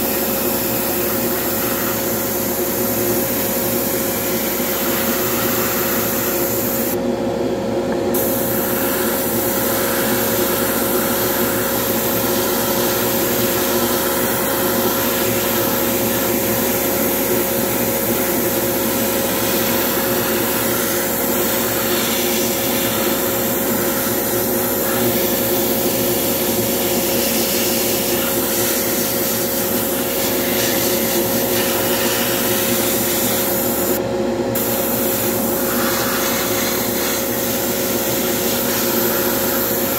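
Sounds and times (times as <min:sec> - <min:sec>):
airbrush spraying hiss: 0:00.0 - 0:07.0, 0:08.1 - 0:34.0, 0:34.6 - 0:39.9
exhaust fan humming: 0:00.0 - 0:39.9.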